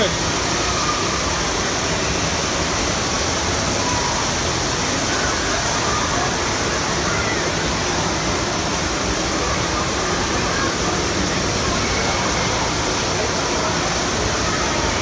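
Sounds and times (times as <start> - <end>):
faint voices: 0.0 - 15.0
water rushing and splashing: 0.0 - 15.0.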